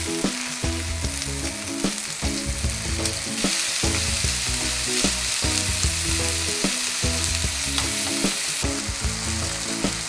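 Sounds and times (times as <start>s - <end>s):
patties sizzling in oil: 0.0s - 10.0s.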